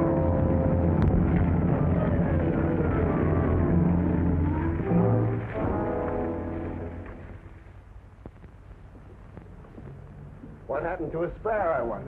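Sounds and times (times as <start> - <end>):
film score with held low notes: 0.0 - 12.0.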